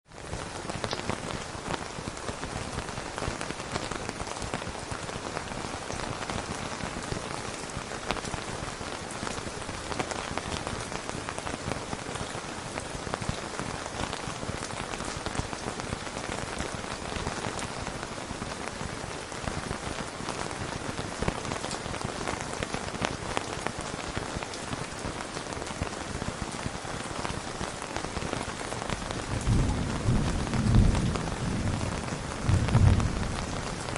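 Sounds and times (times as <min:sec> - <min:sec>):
rain falling on a tent: 0:00.0 - 0:33.9.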